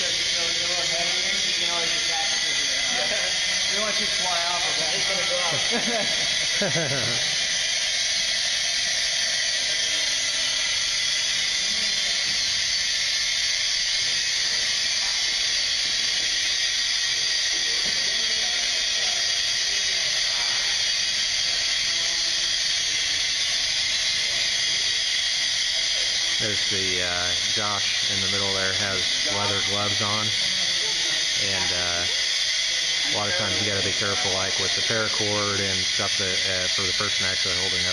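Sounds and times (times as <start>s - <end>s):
gas hissing into balloon: 0.0s - 37.9s.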